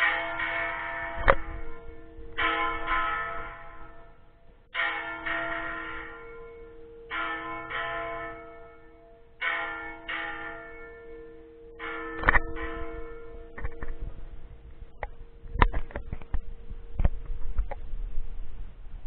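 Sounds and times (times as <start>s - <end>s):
small church bell ringing: 0.0s - 17.0s.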